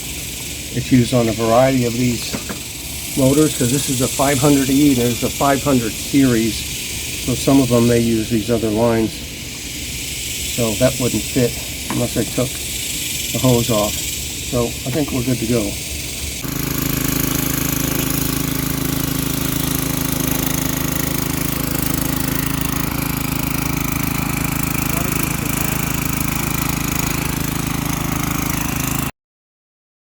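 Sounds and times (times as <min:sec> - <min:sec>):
small engine running: 0:00.0 - 0:29.1.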